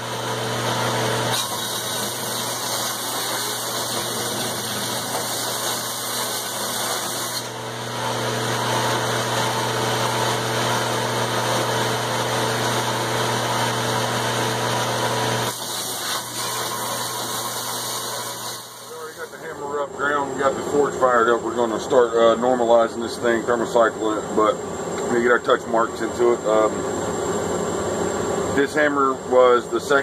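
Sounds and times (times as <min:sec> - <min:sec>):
shop machine humming: 0:00.0 - 0:30.0.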